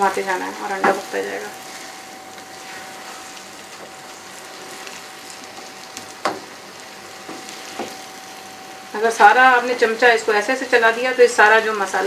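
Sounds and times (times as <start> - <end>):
omelette sizzling in frying pan: 0.0 - 12.0.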